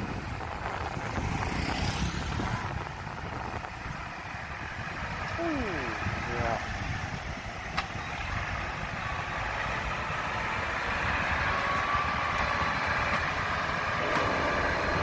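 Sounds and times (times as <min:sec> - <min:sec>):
heavy machine engine running: 0:02.1 - 0:15.0.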